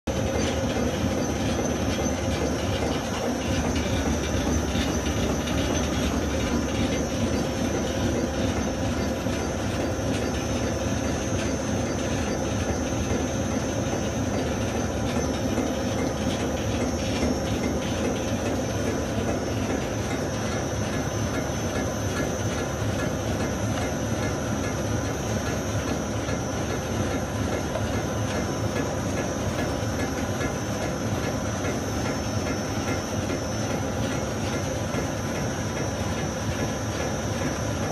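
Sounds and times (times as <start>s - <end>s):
cutting machine humming and rattling: 0.1s - 37.9s.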